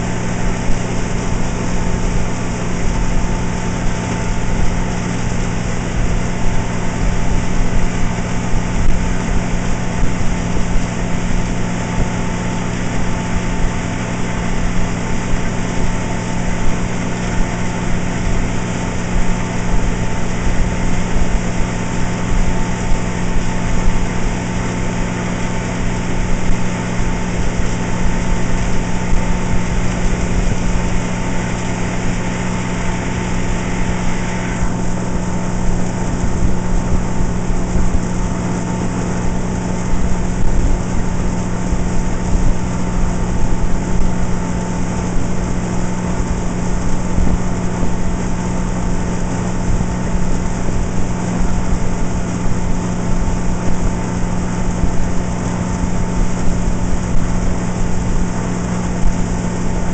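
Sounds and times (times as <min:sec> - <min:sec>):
motorboat engine running: 0:00.0 - 0:59.9
wind and water rushing: 0:00.0 - 0:59.9.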